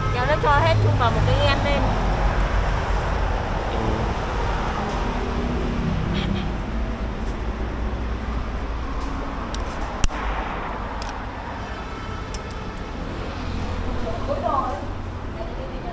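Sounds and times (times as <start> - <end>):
street traffic rumble: 0.0 - 15.9.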